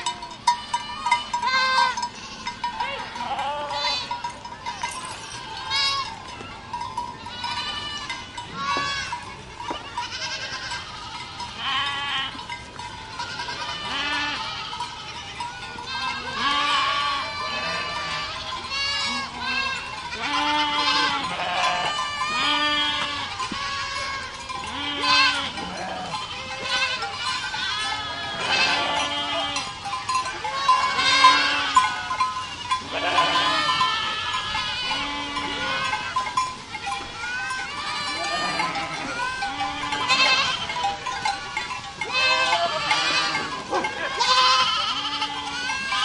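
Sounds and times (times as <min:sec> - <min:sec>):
goats bleating: 0:00.0 - 0:46.0.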